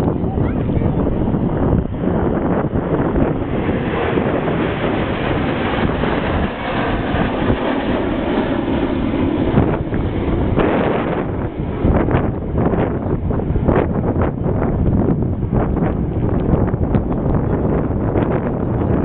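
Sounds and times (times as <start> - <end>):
aircraft engines roaring overhead: 0.0 - 19.0
wind buffeting microphone: 0.0 - 19.0.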